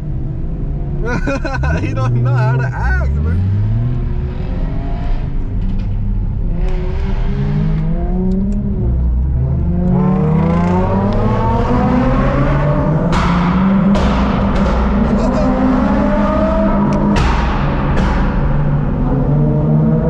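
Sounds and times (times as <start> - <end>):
car engine revving: 1.0 - 20.0.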